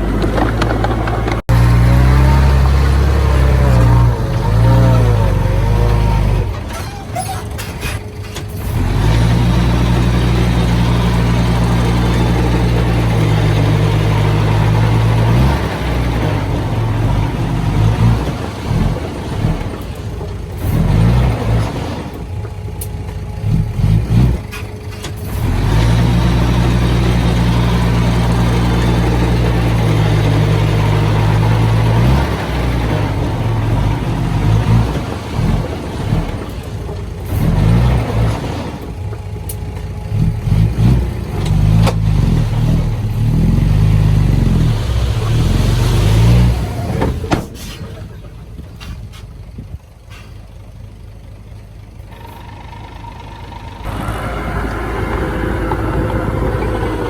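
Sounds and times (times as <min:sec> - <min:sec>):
heavy diesel engine running hard: 0:00.0 - 0:57.0.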